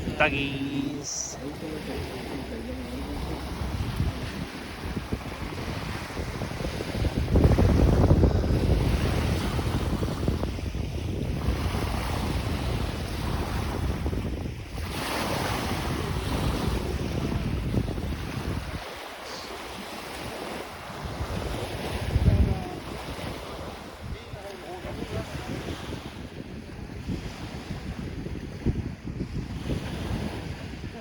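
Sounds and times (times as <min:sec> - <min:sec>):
wind buffeting microphone: 0:00.0 - 0:00.5, 0:01.4 - 0:19.0, 0:20.0 - 0:31.0
lake waves washing on beach: 0:00.0 - 0:31.0.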